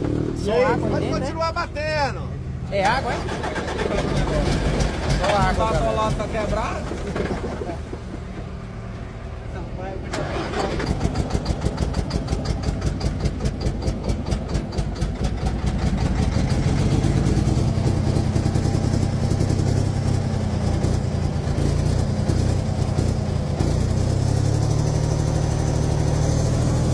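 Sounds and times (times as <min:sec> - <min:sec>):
diesel engine cranking by starter: 0:00.0 - 0:26.9
diesel engine running steadily: 0:00.0 - 0:26.9.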